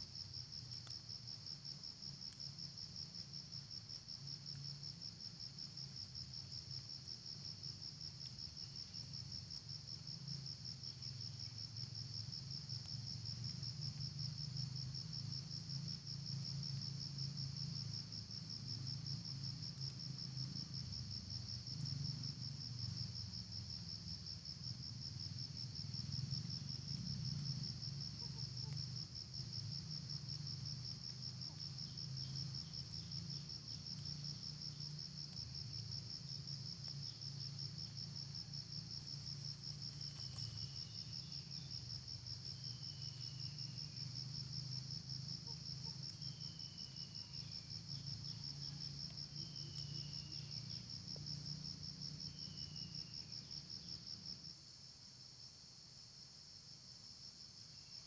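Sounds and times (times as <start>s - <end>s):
high-pitched insect trill: 0.0s - 54.5s.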